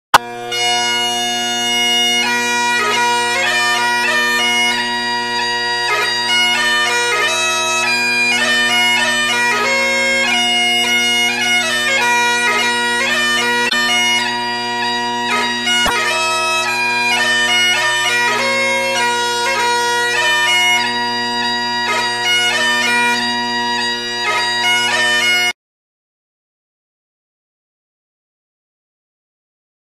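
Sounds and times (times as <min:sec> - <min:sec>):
bagpipes playing a tune: 0:00.1 - 0:25.6.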